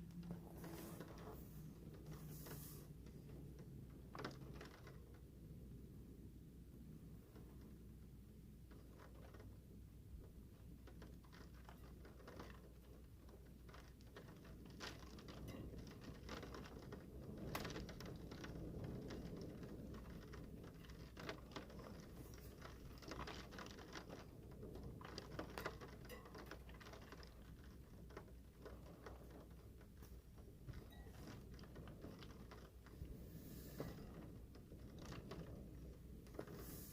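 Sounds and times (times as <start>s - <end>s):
low steady rumble: 0.0s - 36.9s
raindrops pattering: 0.0s - 36.9s.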